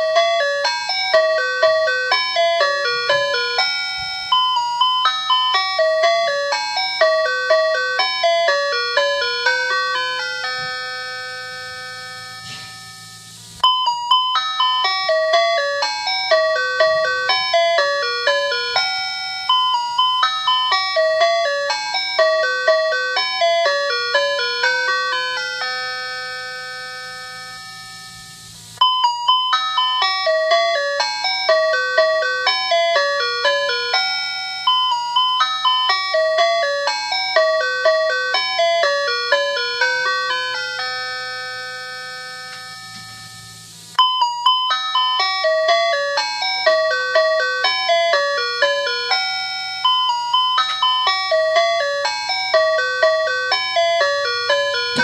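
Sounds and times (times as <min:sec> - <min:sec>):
bell-like chime melody: 0:00.0 - 0:55.0.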